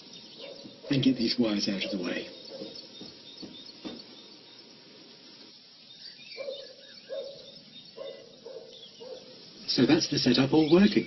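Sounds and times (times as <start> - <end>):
faint bird chirping: 0.0 - 11.0.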